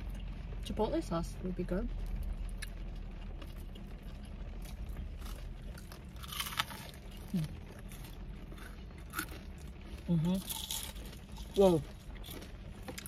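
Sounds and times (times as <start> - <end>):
onion ring crunch bite: 2.4 - 13.0
crunchy chewing: 2.5 - 13.0.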